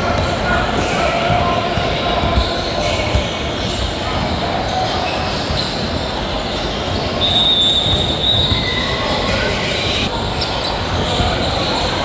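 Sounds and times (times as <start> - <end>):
indoor hall noise: 0.0 - 12.0.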